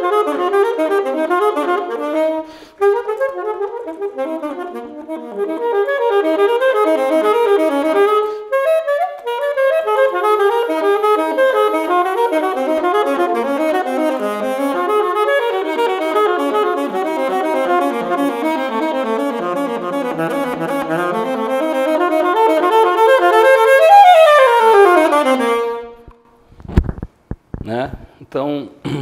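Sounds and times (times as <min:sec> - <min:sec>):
alto saxophone running notes: 0:00.0 - 0:26.2.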